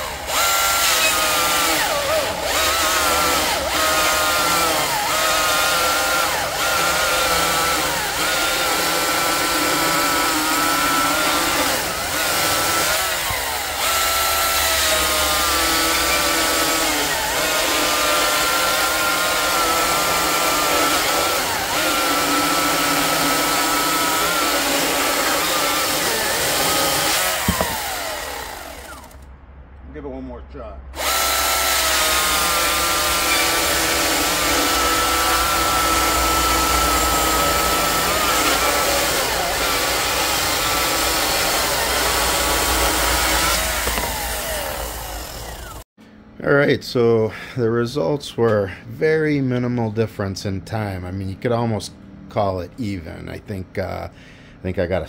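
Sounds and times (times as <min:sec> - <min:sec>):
electric chainsaw cutting log: 0:00.0 - 0:29.3, 0:31.0 - 0:45.9.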